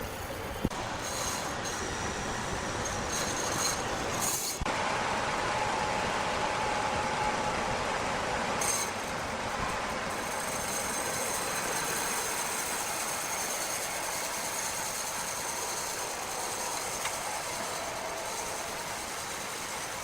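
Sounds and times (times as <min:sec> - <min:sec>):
faint high whine: 0:00.0 - 0:20.0
machinery running: 0:00.0 - 0:20.0.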